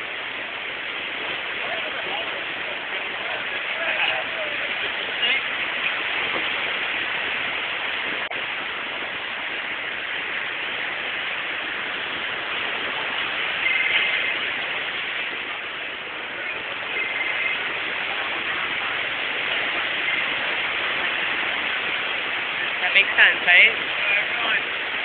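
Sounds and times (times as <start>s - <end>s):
ocean surf breaking: 0.0s - 25.0s.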